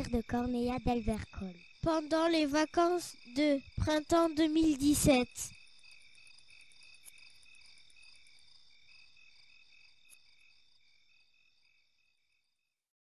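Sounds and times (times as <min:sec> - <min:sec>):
crickets chirping: 0:00.0 - 0:12.7.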